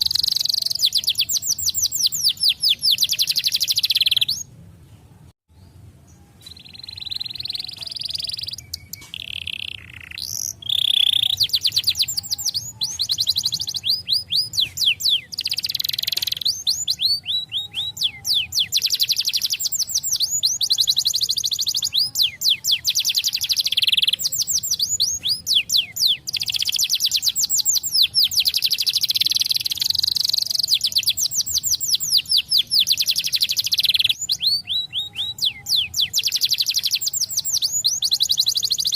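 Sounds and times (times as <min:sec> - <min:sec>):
canary singing trills: 0:00.0 - 0:04.5, 0:05.6 - 0:38.9.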